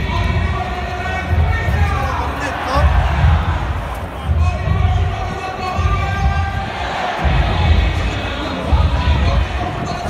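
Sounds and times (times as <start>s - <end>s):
crowd chanting in unison: 0.0s - 10.0s.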